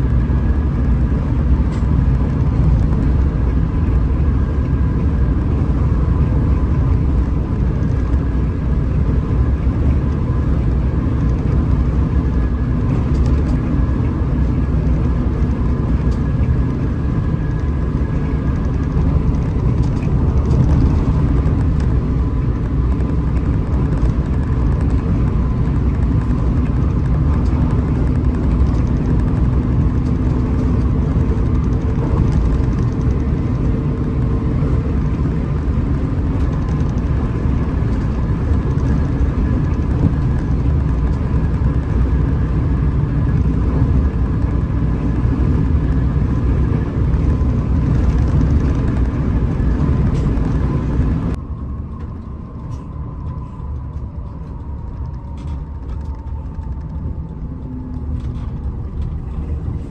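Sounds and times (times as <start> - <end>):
diesel engine rumbling: 0.0 - 59.9
road noise: 0.0 - 59.9.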